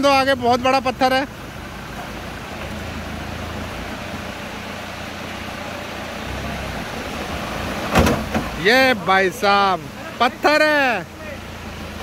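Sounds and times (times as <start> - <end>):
diesel engine running: 0.0 - 12.0
river water rushing: 0.0 - 12.0.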